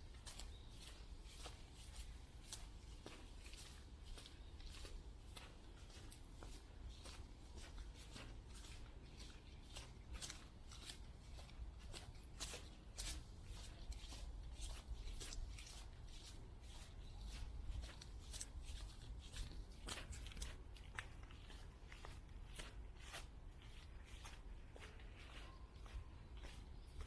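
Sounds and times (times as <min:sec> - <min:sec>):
footsteps crunching on trail: 0:00.0 - 0:27.0.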